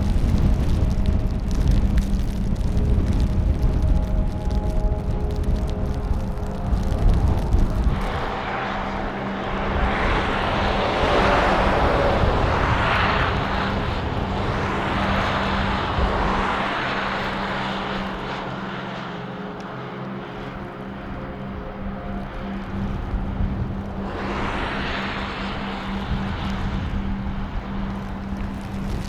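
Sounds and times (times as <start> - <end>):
low hum: 0.0 - 29.0
storm wind gusting: 0.0 - 29.0
wind rumble on microphone: 0.0 - 29.0.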